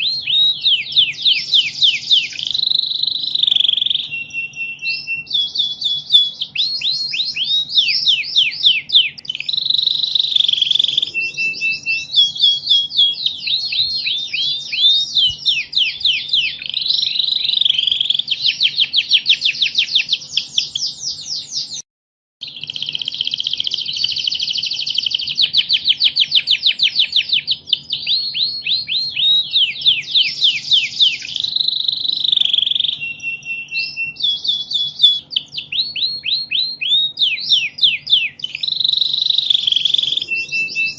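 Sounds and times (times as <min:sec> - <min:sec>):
canary singing trills: 0:00.0 - 0:21.8, 0:22.4 - 0:40.9.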